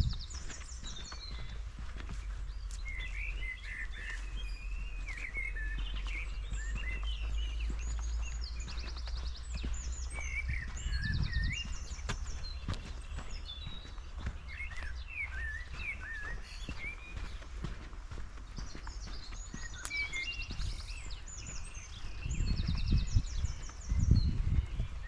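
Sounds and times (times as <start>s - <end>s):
songbirds chirping and trilling: 0.0s - 25.0s.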